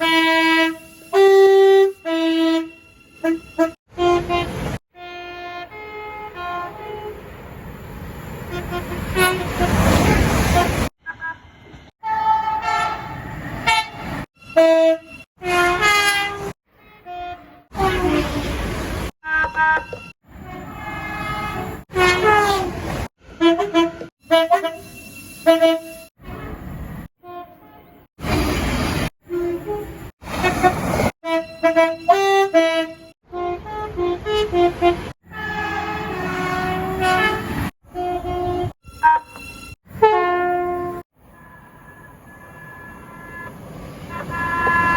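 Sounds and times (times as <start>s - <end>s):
train air horn blasts: 0.0s - 7.2s, 8.5s - 10.9s, 12.0s - 18.6s, 19.2s - 44.9s.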